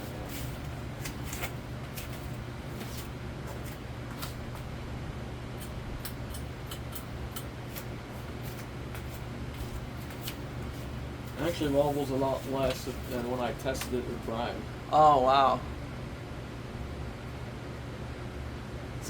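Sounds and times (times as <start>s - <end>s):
ceiling fan running: 0.0s - 19.0s.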